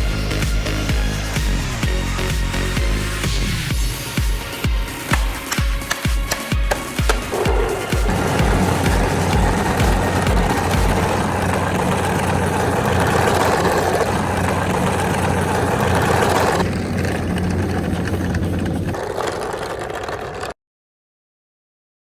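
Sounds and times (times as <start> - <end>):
motor running: 0.0 - 20.5.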